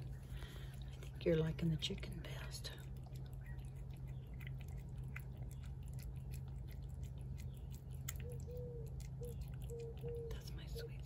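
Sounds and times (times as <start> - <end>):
cat chewing: 0.0 - 11.0.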